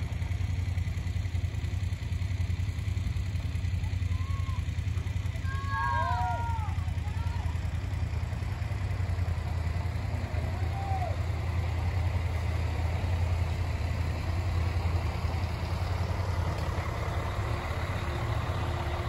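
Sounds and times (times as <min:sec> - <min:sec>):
coach engine rumbling: 0:00.0 - 0:19.0.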